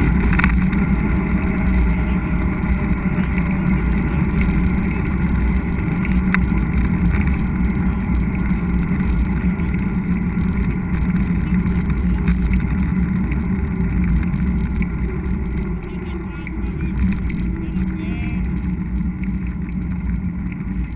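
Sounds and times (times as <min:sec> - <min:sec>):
tyres rolling over trail: 0:00.0 - 0:20.9
wind buffeting camera: 0:00.0 - 0:20.9.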